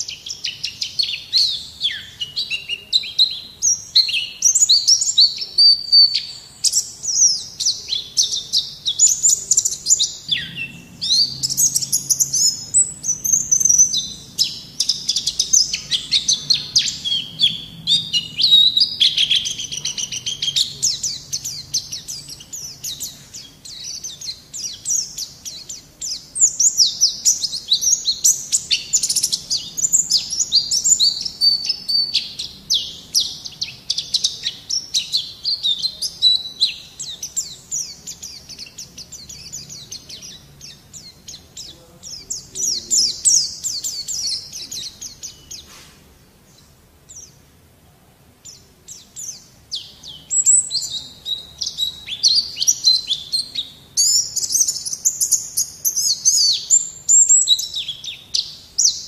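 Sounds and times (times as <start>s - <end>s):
bird twittering song: 0.0s - 47.6s, 48.4s - 59.0s.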